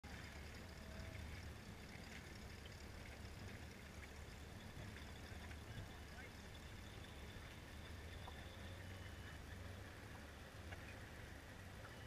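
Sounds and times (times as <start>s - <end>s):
low steady rumble: 0.0s - 12.0s
water lapping against boat hull: 0.0s - 12.0s.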